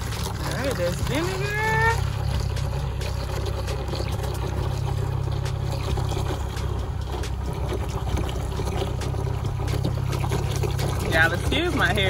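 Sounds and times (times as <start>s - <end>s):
liquid pouring from jug: 0.0s - 12.0s
steady low rumble: 0.0s - 12.0s.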